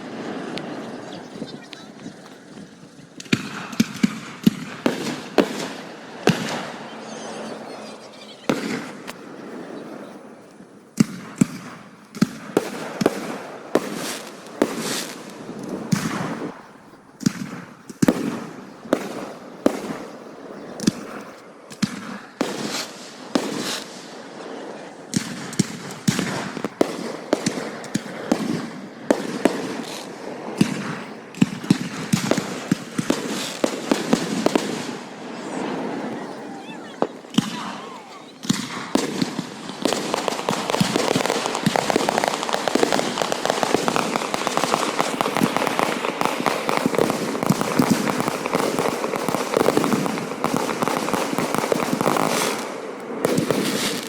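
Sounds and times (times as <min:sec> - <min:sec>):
fireworks bursting with bangs: 0:00.0 - 0:54.0.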